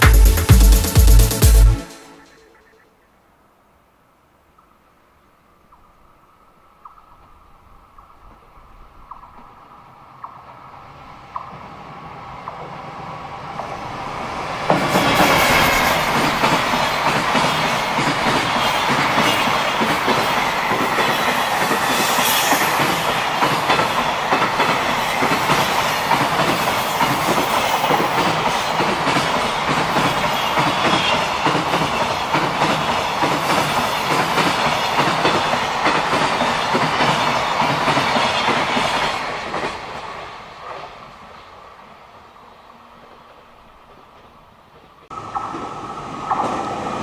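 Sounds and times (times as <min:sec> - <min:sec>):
electric locomotive passing: 0:01.7 - 0:47.0.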